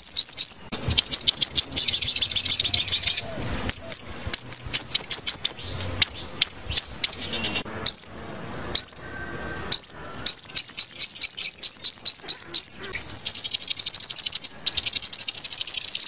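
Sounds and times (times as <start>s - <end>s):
bird calling with high chips: 0.0s - 16.0s.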